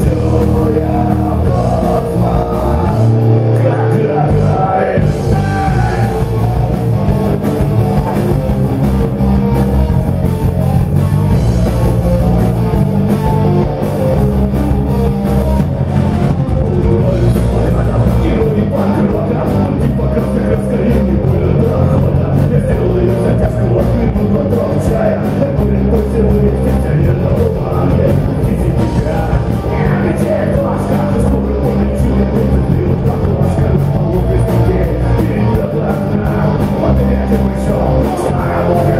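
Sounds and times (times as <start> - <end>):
rock band playing loudly: 0.0 - 38.9.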